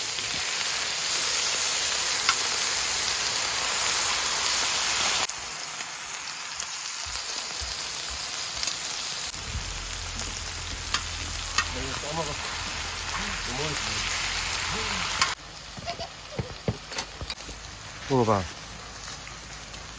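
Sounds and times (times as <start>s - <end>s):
pork sizzling on a griddle: 0.0s - 19.9s.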